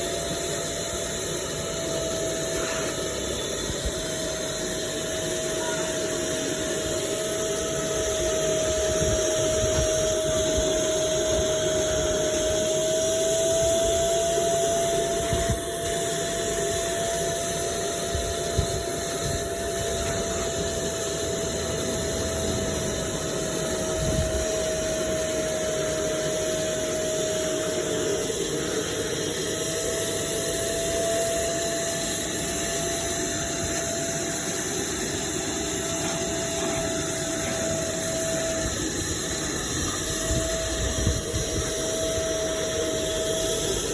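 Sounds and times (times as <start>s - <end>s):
carpet cleaning machine motor: 0.0s - 43.9s.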